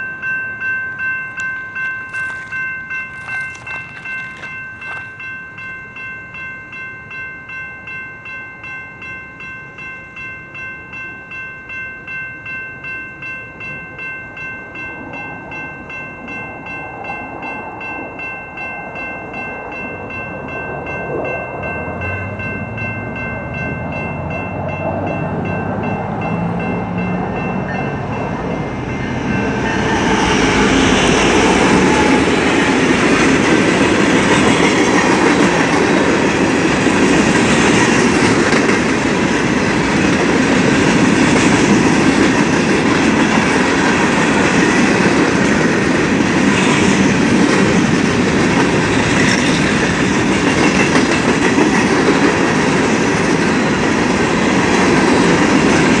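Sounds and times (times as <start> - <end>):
crossing warning bell ringing: 0.0 - 56.0
freight train rumble and wheel noise: 0.0 - 56.0.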